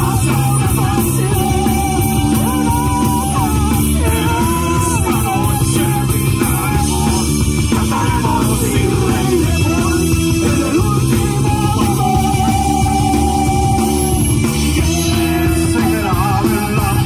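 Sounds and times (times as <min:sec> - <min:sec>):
person singing: 0:00.0 - 0:17.0
rock band playing loudly: 0:00.0 - 0:17.0.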